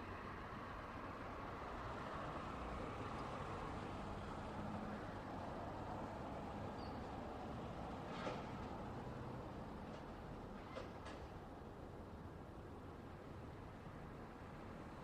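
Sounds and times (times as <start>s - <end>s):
passing road traffic: 0.0s - 15.0s.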